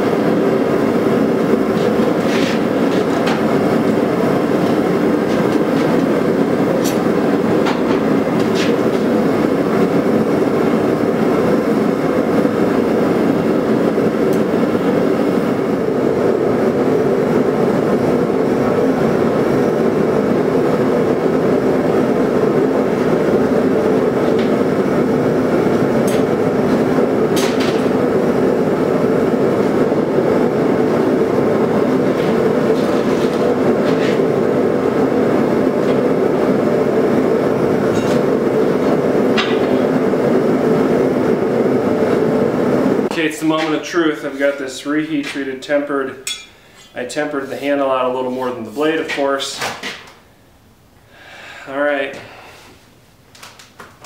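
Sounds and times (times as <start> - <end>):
gas forge burner rushing: 0.0 - 50.3.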